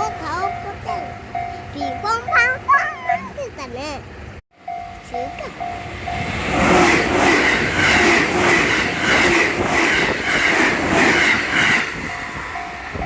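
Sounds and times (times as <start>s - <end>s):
crossing warning bell ringing: 0.0s - 3.5s, 4.5s - 10.4s, 11.2s - 13.0s.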